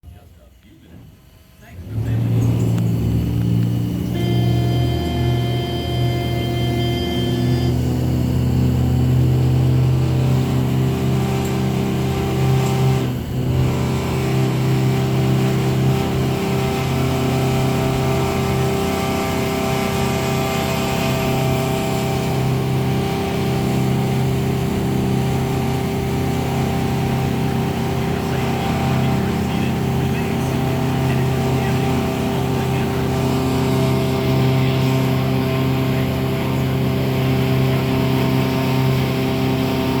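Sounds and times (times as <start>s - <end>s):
boat engine running: 0.0s - 40.0s.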